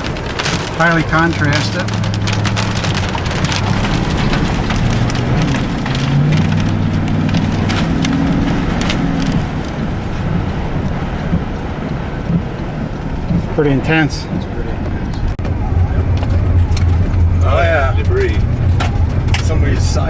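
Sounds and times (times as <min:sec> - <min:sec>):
rain pelting vehicle roof: 0:00.0 - 0:20.0
vehicle running hum: 0:00.0 - 0:20.0.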